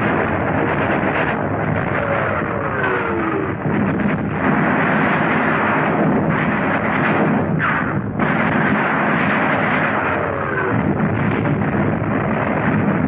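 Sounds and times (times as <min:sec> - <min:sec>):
artillery and gunfire: 0:00.0 - 0:13.0
falling whine: 0:00.0 - 0:13.0.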